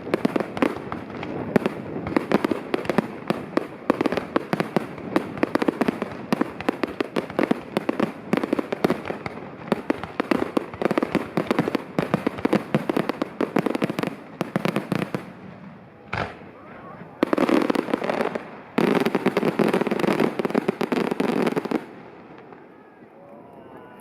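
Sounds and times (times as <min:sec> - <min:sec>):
fireworks bangs and crackles: 0:00.0 - 0:23.2.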